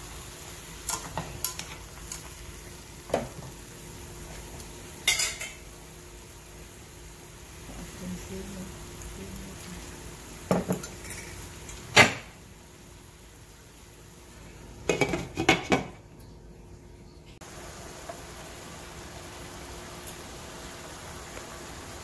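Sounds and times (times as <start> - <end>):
pan cooking hiss: 0.0 - 16.1, 17.4 - 22.0.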